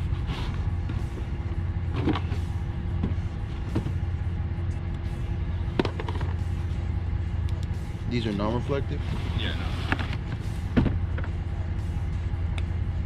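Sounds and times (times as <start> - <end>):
faint music: 0.0 - 13.0
low machinery hum: 0.0 - 13.0.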